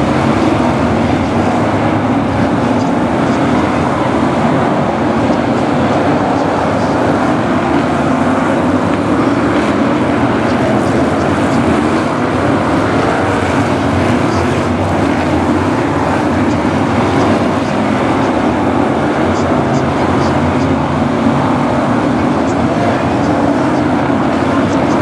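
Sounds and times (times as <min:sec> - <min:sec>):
stock car engines racing: 0:00.0 - 0:25.0.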